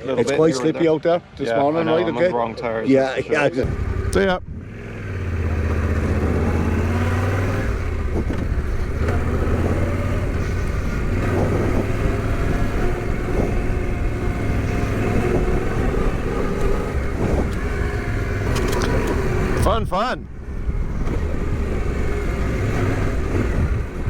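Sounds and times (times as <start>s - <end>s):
motorcycle engine running: 3.6s - 24.0s.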